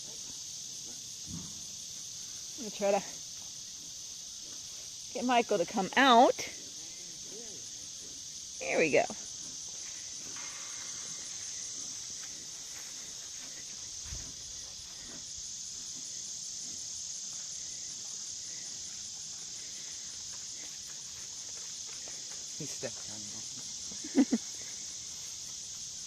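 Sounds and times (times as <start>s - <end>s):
insects chirring chorus: 0.0s - 26.0s.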